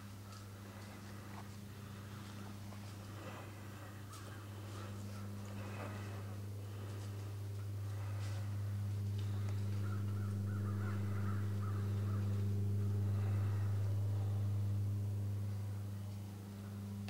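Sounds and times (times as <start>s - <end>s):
steady low hum: 0.0s - 17.0s
crows cawing: 0.2s - 2.5s, 3.2s - 15.3s.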